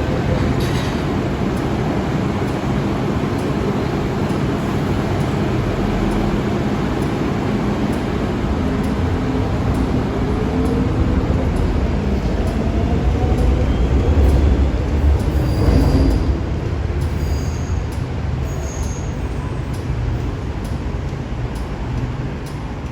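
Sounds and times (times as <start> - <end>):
train wheels rumbling: 0.0 - 22.9.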